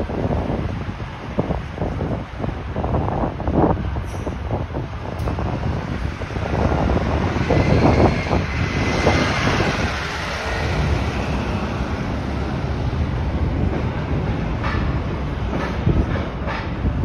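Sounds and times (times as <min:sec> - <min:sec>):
street traffic: 0:00.0 - 0:17.0
wind on microphone: 0:00.0 - 0:17.0.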